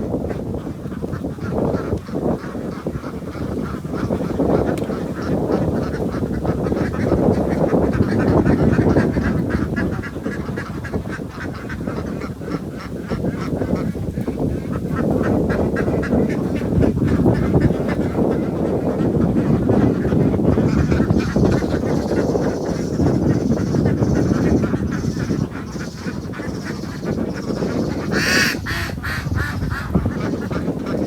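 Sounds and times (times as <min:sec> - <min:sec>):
poultry quacking and honking: 0:00.0 - 0:31.0.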